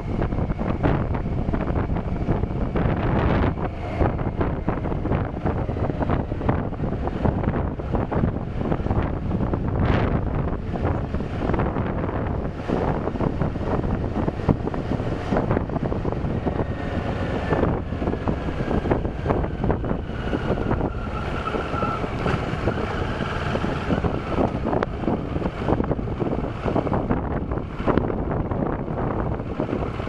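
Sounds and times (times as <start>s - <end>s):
motorcycle engine and tyres rumbling: 0.0s - 30.0s
wind buffeting microphone: 0.0s - 30.0s.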